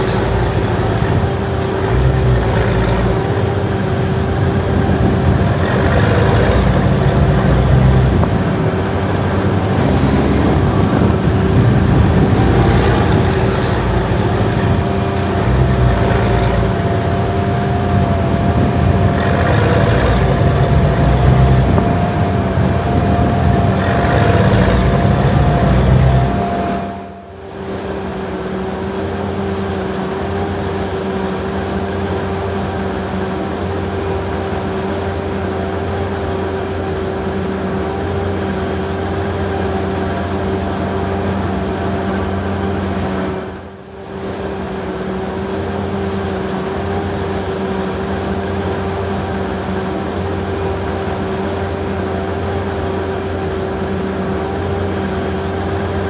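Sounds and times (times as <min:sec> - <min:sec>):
heavy farm machinery engine drone: 0:00.0 - 0:56.0
mechanical whine: 0:00.0 - 0:56.0.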